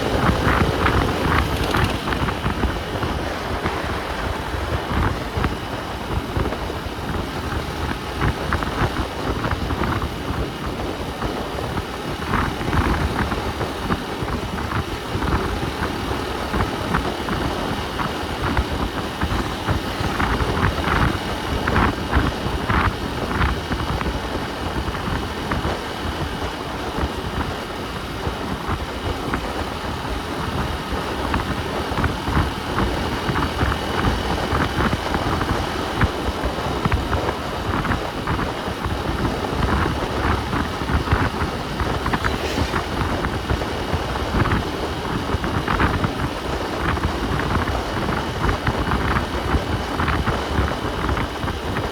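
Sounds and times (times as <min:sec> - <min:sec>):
vehicle engine and road noise: 0:00.0 - 0:51.9.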